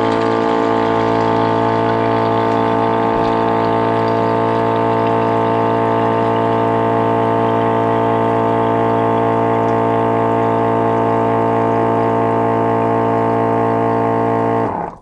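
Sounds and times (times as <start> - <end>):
electric pump humming: 0.0 - 15.0.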